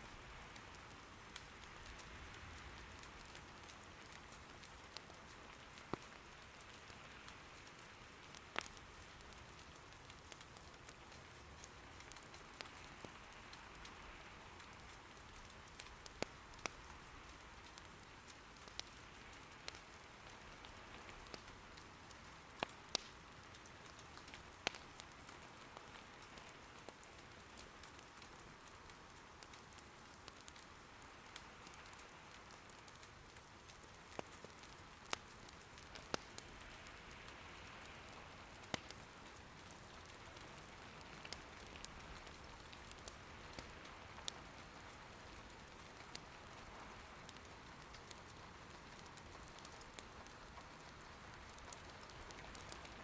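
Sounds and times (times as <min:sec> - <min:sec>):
soft rain patter: 0:00.0 - 0:53.0
hearth fire wood popping: 0:00.5 - 0:53.0.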